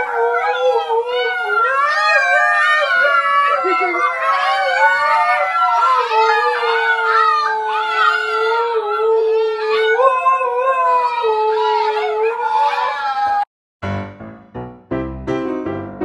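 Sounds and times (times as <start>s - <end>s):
huskies howling: 0.0s - 13.5s.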